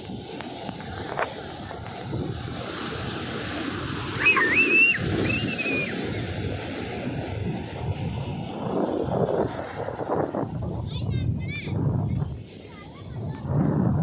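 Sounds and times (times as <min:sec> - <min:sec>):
sea surf breaking on beach: 0:00.0 - 0:14.0.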